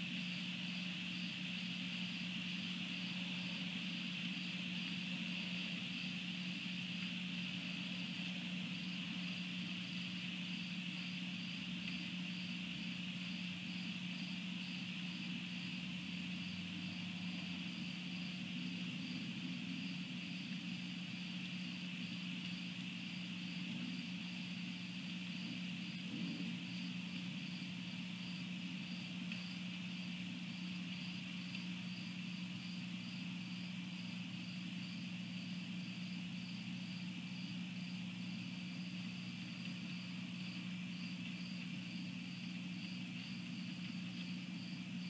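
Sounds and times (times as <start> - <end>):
insect chorus: 0.0 - 45.0.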